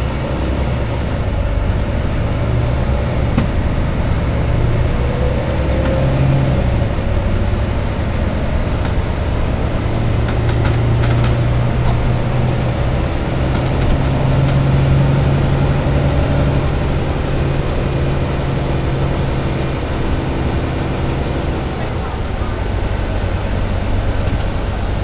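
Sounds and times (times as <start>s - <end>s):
bus engine humming: 0.0s - 25.0s.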